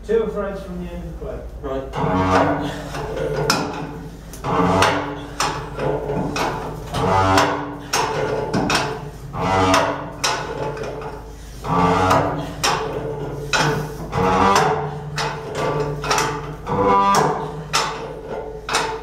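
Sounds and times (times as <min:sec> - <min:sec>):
metallic knocks: 0:01.9 - 0:19.0
threads creaking under wrench: 0:01.9 - 0:19.0.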